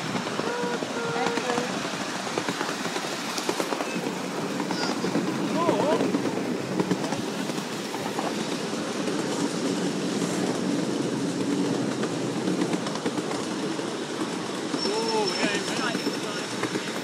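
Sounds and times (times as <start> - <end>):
miniature train wheels rumbling: 0.0 - 17.0.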